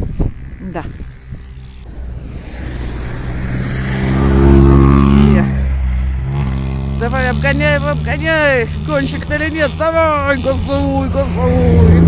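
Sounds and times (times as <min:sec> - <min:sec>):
rally car engine passing: 0:00.9 - 0:12.0.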